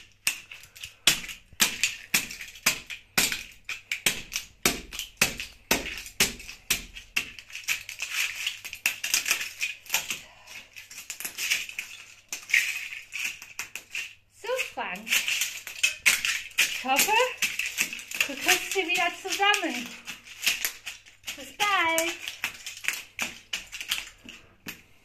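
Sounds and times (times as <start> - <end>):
plastic models cracking underfoot: 0.0 - 25.0.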